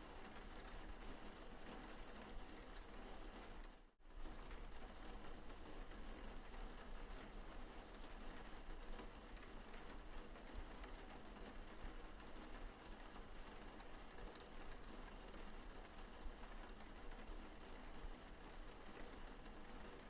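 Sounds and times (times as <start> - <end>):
rain drops pattering: 0.0 - 20.0.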